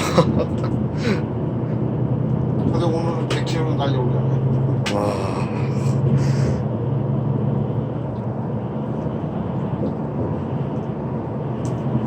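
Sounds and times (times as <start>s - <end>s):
bus engine drone: 0.0s - 12.0s
road and wind noise: 0.0s - 12.0s.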